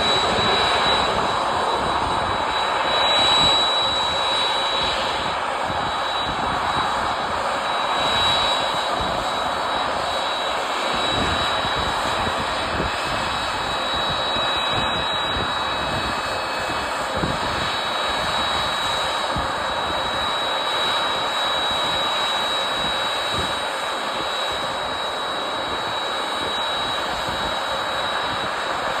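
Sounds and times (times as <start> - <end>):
high jet engine whine: 0.0 - 29.0
jet engines rushing: 0.0 - 29.0.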